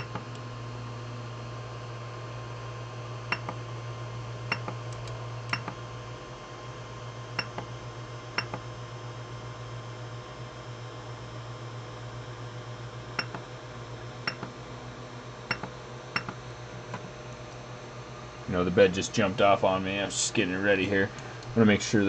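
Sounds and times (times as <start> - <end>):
printer low hum: 0.0 - 22.0.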